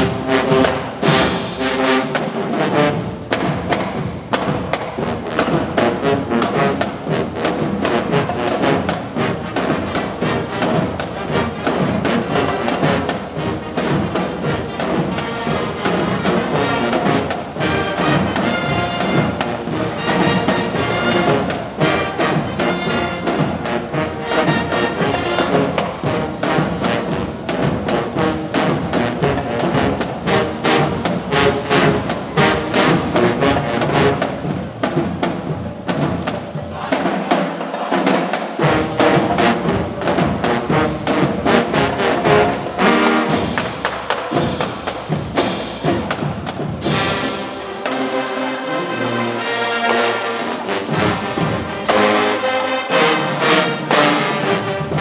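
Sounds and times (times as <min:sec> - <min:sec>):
drumline: 0:00.0 - 0:55.0
marching band brass: 0:00.0 - 0:55.0.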